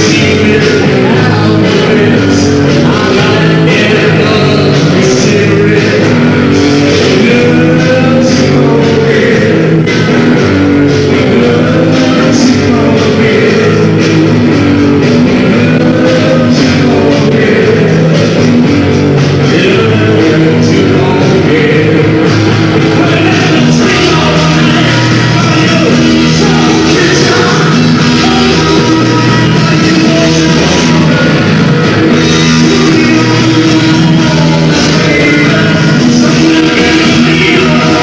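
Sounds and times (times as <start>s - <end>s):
person singing: 0.0s - 38.0s
rock band playing live: 0.0s - 38.0s.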